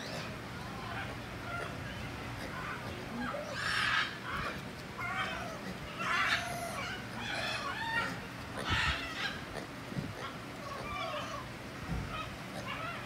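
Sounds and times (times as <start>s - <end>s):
monkeys making high calls: 0.0s - 13.0s.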